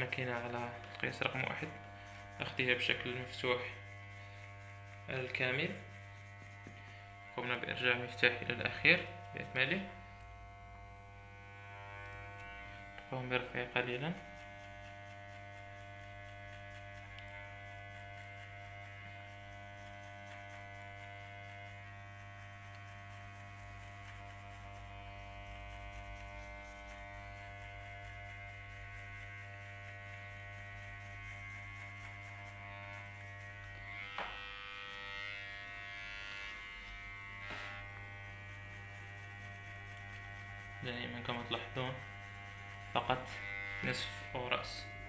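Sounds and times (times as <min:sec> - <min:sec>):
electric hair clipper buzzing: 0:00.0 - 0:45.0.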